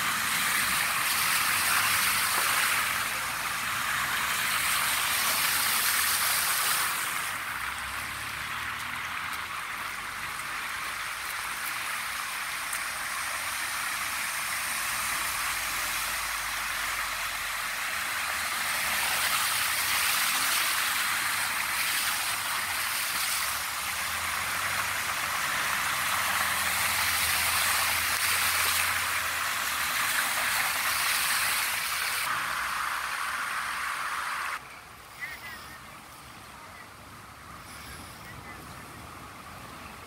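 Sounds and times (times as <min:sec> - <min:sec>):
car driving through water: 0:00.0 - 0:34.6
water running over street: 0:00.0 - 0:34.6
rain hissing: 0:00.0 - 0:35.8.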